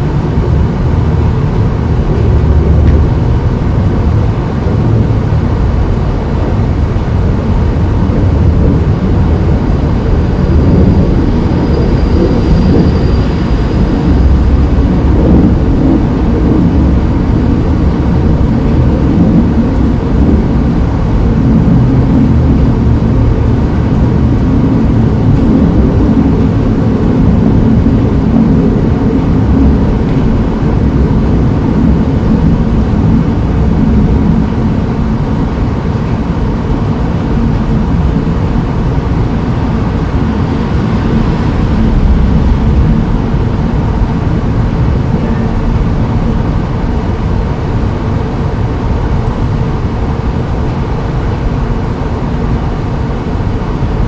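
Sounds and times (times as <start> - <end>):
low rumble of vehicle noise: 0.0 - 54.0.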